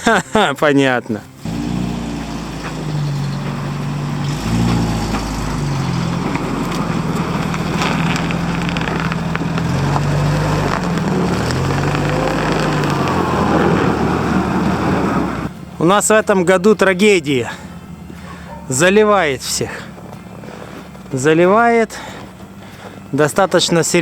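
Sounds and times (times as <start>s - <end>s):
road noise: 0.0s - 24.0s
car engine humming: 1.2s - 24.0s.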